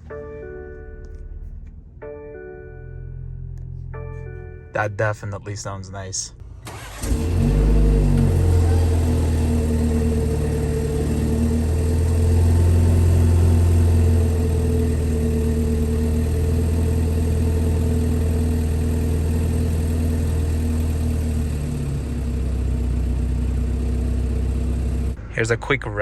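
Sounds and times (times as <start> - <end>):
car engine idling: 4.8 - 26.0.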